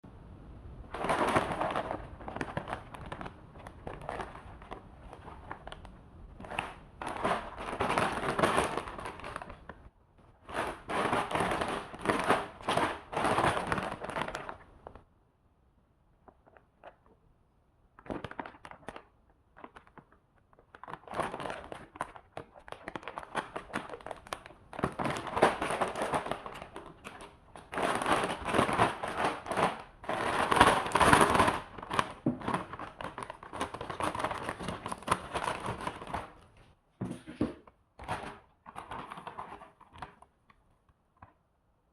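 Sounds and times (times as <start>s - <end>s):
plastic packaging crinkling: 0.9s - 15.0s, 18.0s - 36.6s, 38.0s - 40.2s.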